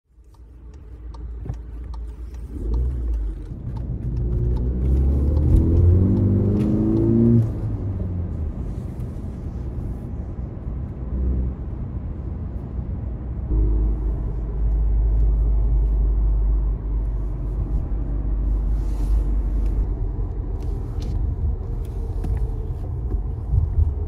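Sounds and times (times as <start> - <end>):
car engine accelerating: 0.2 - 24.0.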